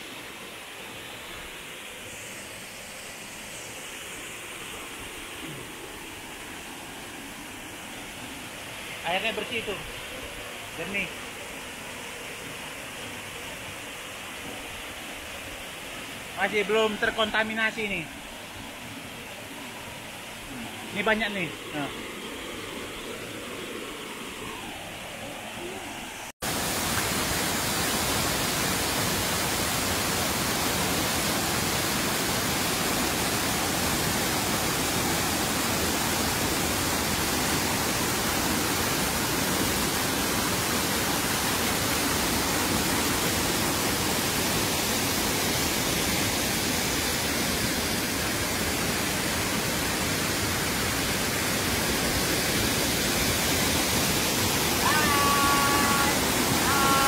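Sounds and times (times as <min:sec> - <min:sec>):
waterfall rushing onto rocks: 0:00.0 - 0:22.2, 0:26.4 - 0:57.0.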